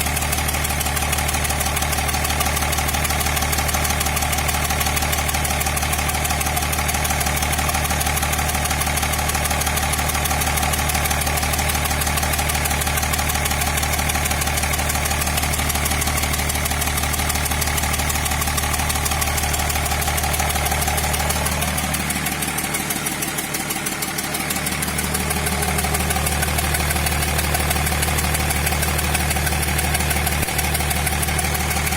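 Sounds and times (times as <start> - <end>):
diesel engine idling with knock: 0.0 - 31.9.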